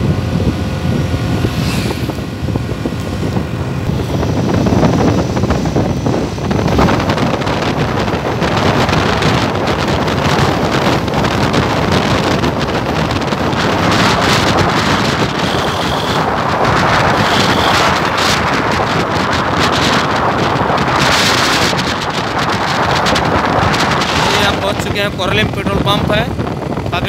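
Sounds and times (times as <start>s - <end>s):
vehicle engine and road noise: 0.0s - 27.0s
wind buffeting microphone: 0.0s - 27.0s.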